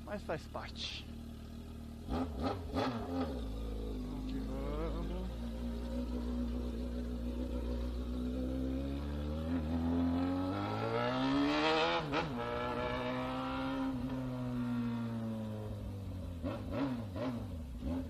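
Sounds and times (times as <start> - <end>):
motorcycle engine accelerating: 1.1 - 18.0.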